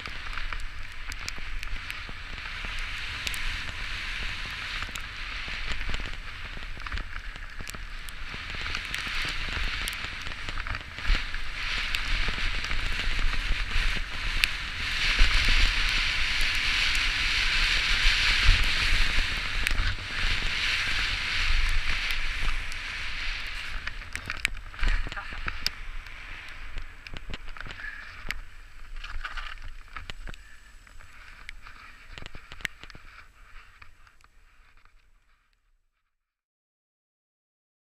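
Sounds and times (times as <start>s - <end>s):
bike tyres on wet dirt: 0.0s - 35.5s.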